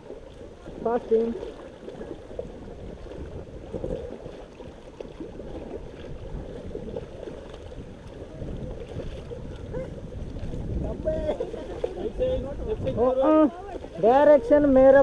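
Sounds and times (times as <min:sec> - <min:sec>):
paddles splashing in water: 0:00.0 - 0:15.0
wind rumbling on microphone: 0:00.0 - 0:15.0.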